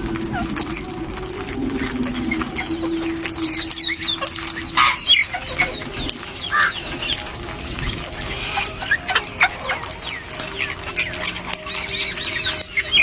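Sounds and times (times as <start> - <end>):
birds chirping and whistling: 0.0 - 13.0
low steady note: 0.0 - 13.0.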